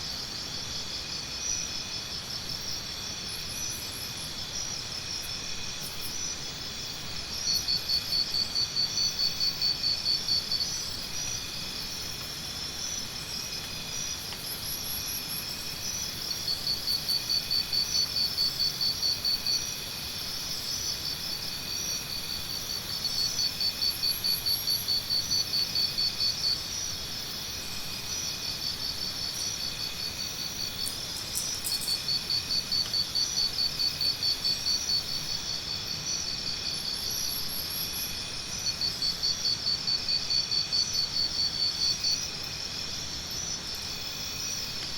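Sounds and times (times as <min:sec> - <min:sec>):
chorus of insects: 0:00.0 - 0:44.9
pulsing insect trill: 0:00.4 - 0:44.9.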